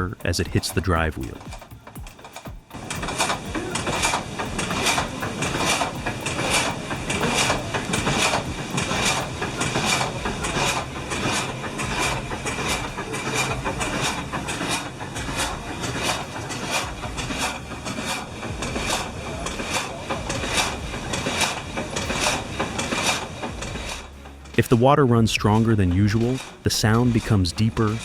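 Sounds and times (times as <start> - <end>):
frame saw cutting through log: 2.8 - 28.0.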